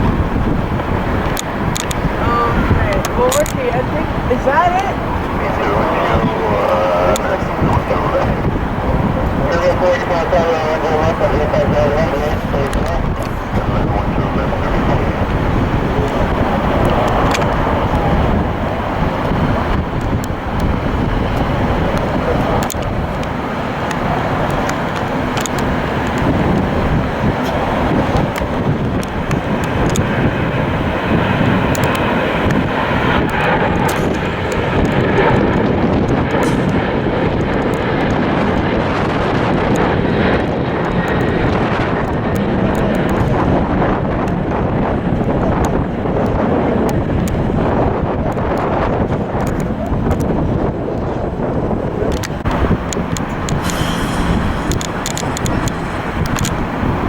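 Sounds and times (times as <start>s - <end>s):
jet engines roaring: 0.0s - 57.0s
steady loud rumble: 0.0s - 57.0s
wind buffeting microphone: 0.0s - 57.0s.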